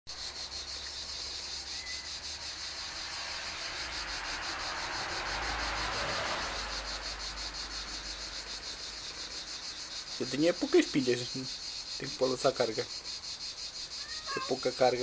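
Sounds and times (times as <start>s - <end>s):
insects chirring: 0.1s - 15.0s.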